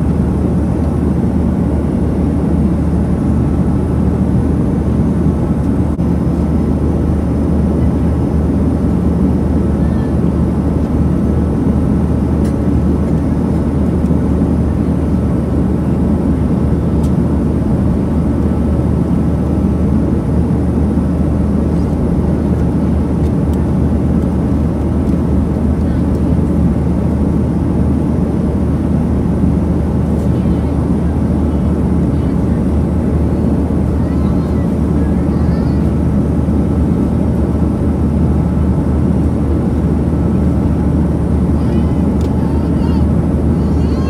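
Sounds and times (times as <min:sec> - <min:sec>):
aircraft cabin engine drone: 0:00.0 - 0:44.0.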